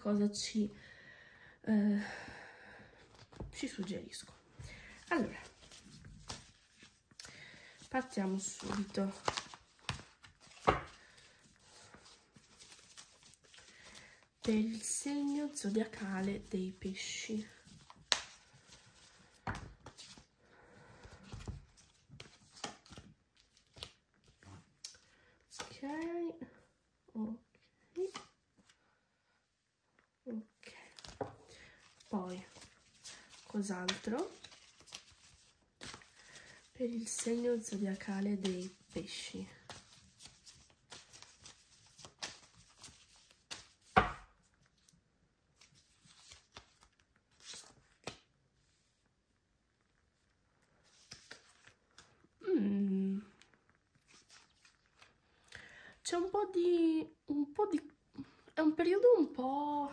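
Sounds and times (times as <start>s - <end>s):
cards rustling in hands: 3.0s - 26.2s, 27.9s - 28.8s, 30.0s - 49.1s, 49.7s - 52.4s, 53.1s - 56.4s.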